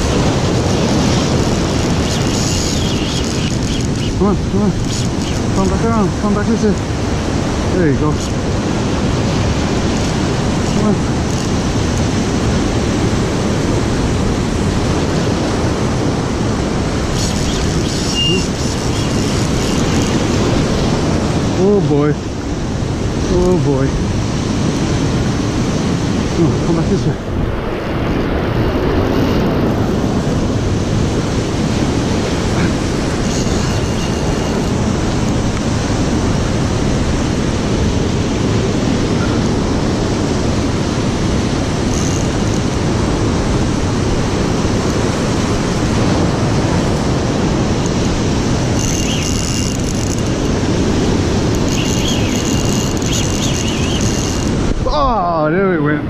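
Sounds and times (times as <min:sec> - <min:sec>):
surf washing over rocks: 0:00.0 - 0:56.0.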